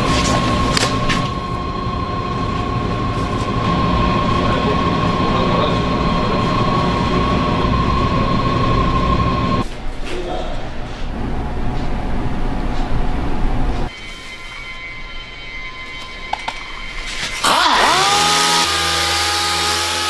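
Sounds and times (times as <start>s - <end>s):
machinery whining and rumbling: 0.0s - 9.7s, 11.1s - 13.9s, 15.8s - 20.0s.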